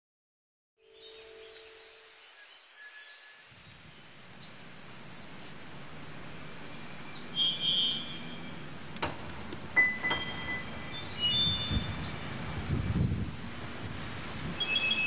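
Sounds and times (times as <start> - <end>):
birds chirping: 0.8 - 15.0
steady outdoor hiss: 0.8 - 15.0.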